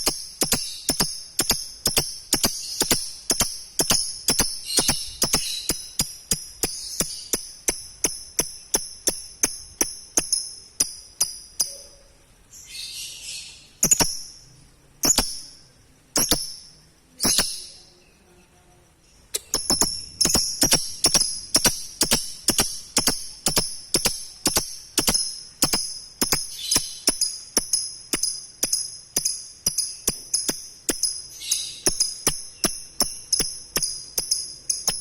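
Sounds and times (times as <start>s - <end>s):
lovebird high chirps: 0.0s - 18.4s, 19.0s - 35.0s.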